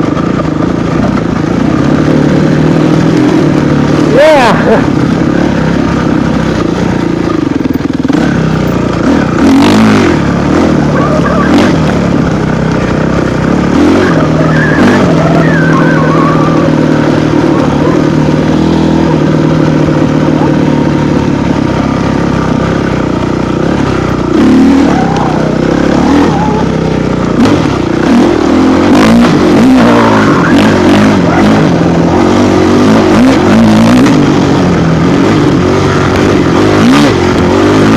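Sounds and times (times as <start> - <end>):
off-road vehicle engine revving: 0.0 - 37.9.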